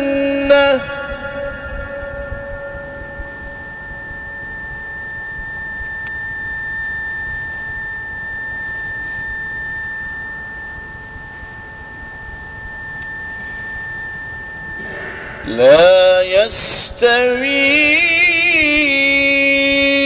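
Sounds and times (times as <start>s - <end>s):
high-pitched electrical whine: 0.0s - 20.0s.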